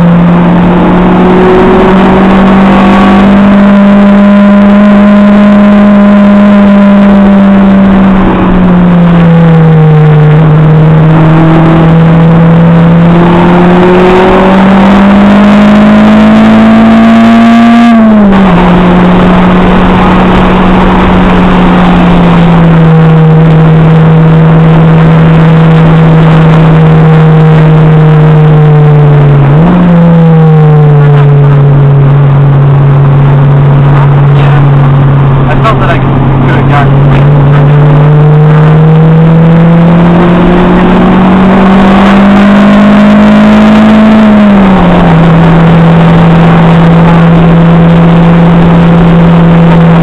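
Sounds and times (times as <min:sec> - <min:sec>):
car engine revving in cabin: 0:00.0 - 0:50.0.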